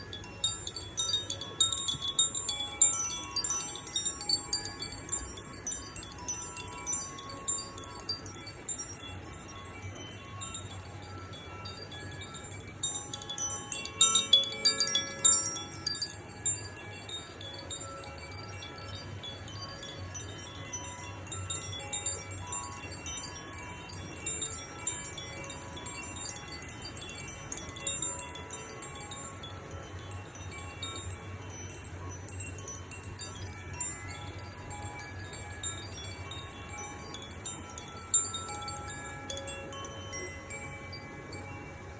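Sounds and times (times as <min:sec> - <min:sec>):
chimes tinkling: 0:00.0 - 0:41.9.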